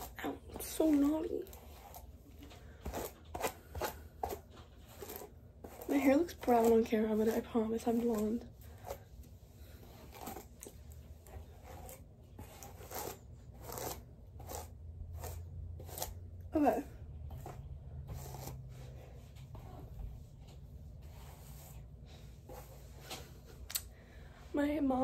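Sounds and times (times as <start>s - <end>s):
hairbrush swishing through hair: 0.0s - 23.7s.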